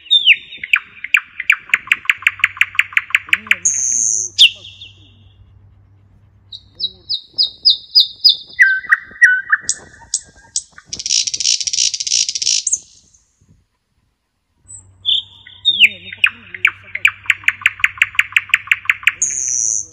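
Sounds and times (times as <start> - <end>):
nightingale singing: 0.0 - 5.4, 6.5 - 13.4, 14.6 - 19.9.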